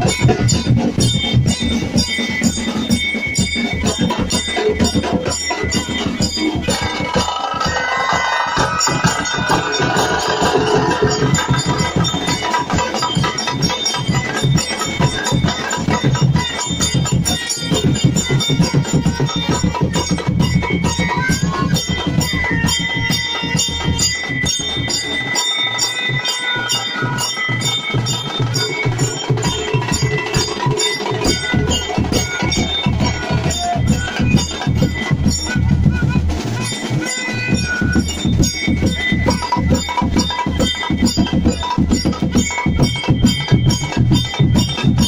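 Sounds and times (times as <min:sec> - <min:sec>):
driving drum rhythm: 0:00.0 - 0:45.0
ringing metallic strokes: 0:00.0 - 0:45.0.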